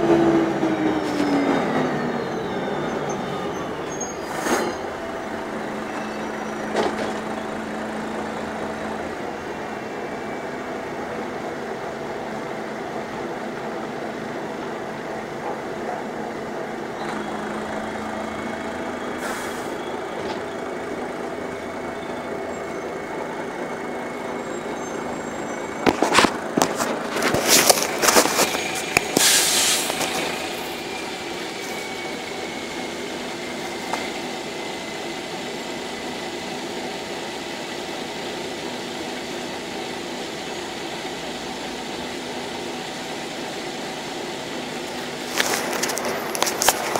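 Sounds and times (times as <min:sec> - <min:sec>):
bus engine rumble: 0:00.0 - 0:46.9.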